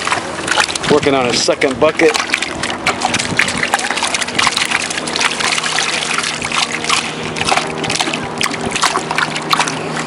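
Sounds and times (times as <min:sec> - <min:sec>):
low steady hum: 0:00.0 - 0:10.0
water splashing and trickling: 0:00.0 - 0:10.0.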